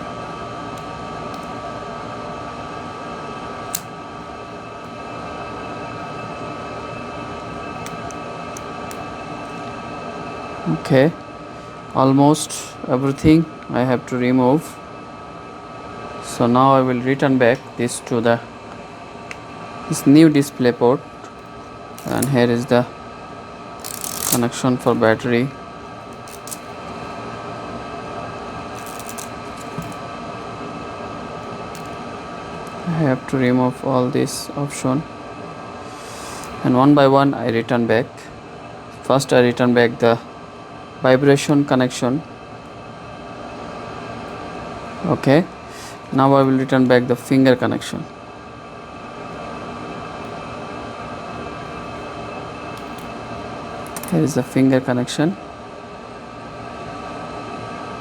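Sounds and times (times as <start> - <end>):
room equipment hum: 0.0 - 58.0.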